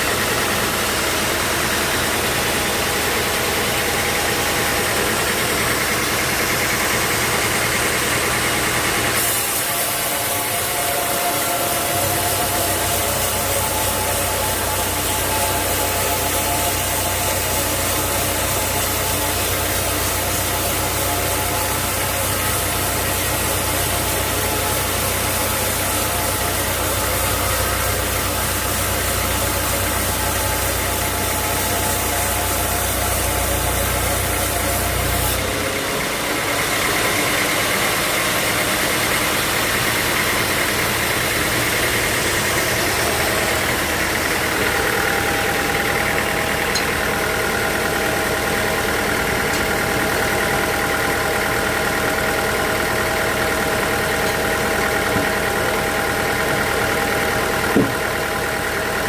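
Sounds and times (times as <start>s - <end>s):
high-pitched machine whine: 0.0s - 59.0s
sawmill machinery running: 0.0s - 59.0s.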